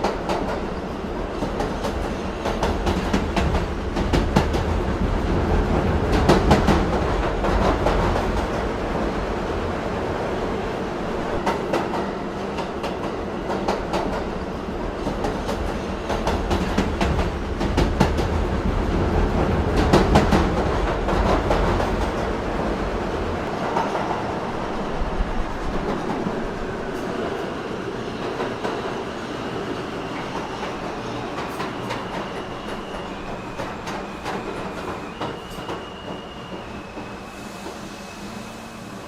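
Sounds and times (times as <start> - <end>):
subway train rumble: 0.0 - 39.0.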